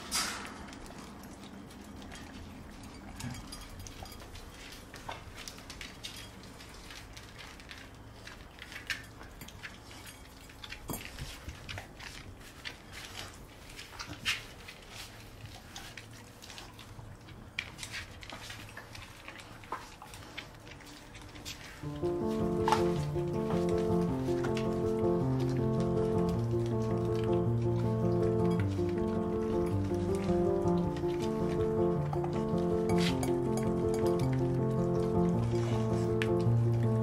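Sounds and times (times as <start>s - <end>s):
dogs crunching kibble: 0.0s - 37.0s.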